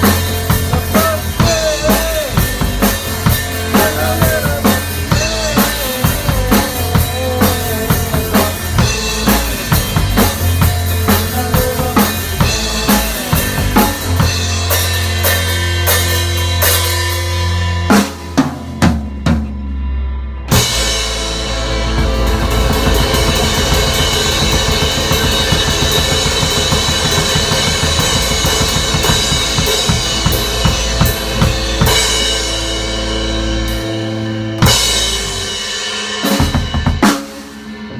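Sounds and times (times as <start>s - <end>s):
low bass line: 0.0s - 35.6s
drum kit with bass drum and snare: 0.0s - 37.9s.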